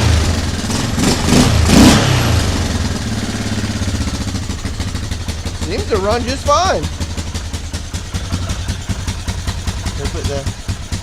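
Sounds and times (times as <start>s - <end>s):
small engine surging and idling: 0.0s - 11.0s.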